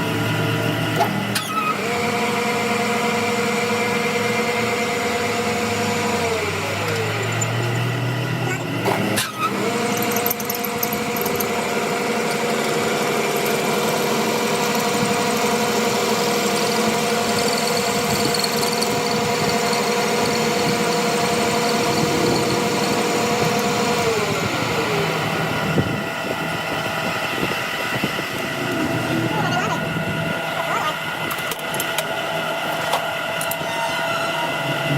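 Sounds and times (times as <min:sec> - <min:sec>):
workshop machine motor whining: 0:00.0 - 0:34.9.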